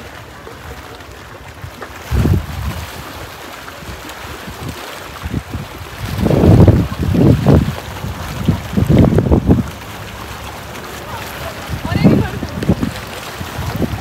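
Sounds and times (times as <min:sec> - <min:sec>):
water lapping against stone steps: 0:00.0 - 0:14.0
wind buffeting microphone: 0:00.0 - 0:14.0.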